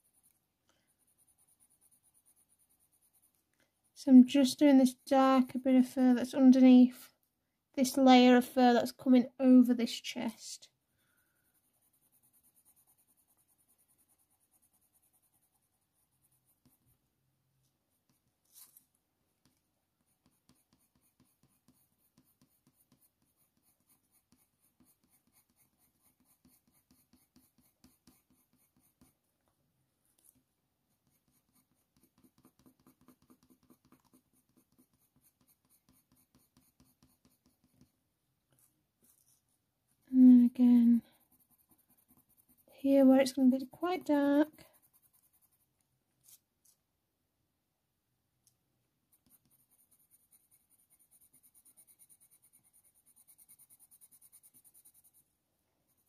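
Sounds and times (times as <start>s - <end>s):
coloured pencil scratching on paper: 0.0s - 6.4s, 11.0s - 17.1s, 17.9s - 18.8s, 19.4s - 29.2s, 30.2s - 46.4s, 49.1s - 56.0s.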